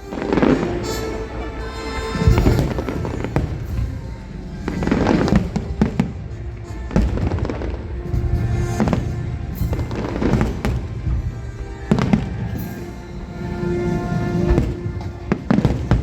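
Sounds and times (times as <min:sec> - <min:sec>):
music playing: 0:00.0 - 0:16.0
fireworks cracking and booming: 0:01.8 - 0:12.8, 0:13.9 - 0:16.0.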